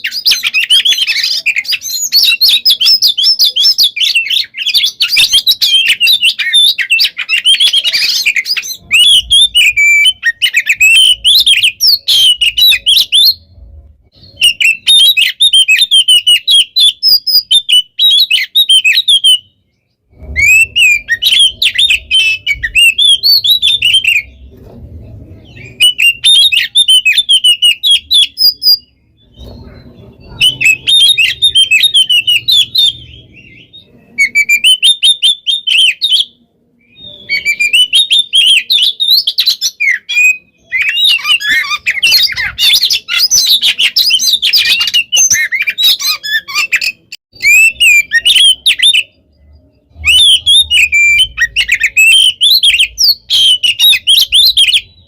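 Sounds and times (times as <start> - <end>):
songbird singing whistles and trills: 0.0 - 55.0.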